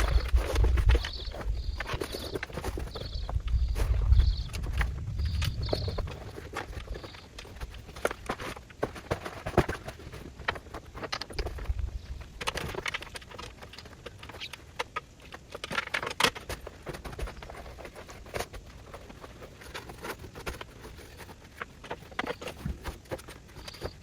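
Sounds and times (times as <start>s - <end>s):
camp gear knocking and clicking: 0.0s - 24.0s.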